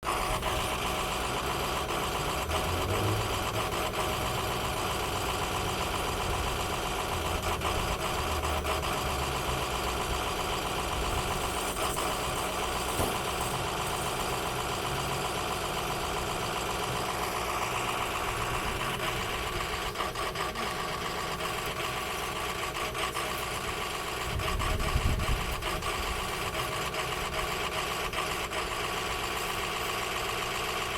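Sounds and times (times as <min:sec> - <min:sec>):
diesel engine idling and sputtering: 0:00.0 - 0:30.9.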